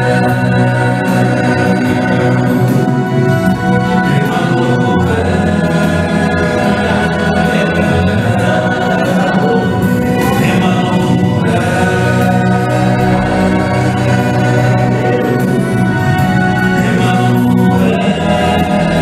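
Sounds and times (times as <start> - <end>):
male quartet singing gospel: 0.0 - 19.0.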